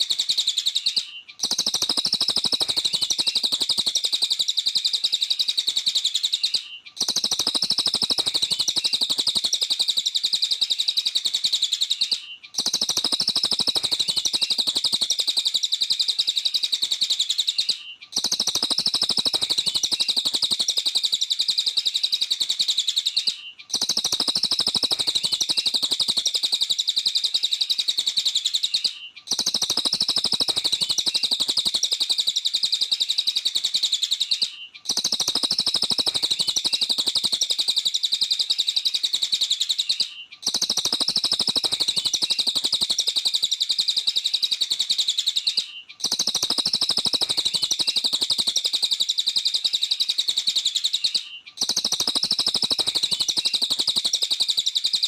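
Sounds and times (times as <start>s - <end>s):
songbird chirping fast: 0.0s - 55.0s.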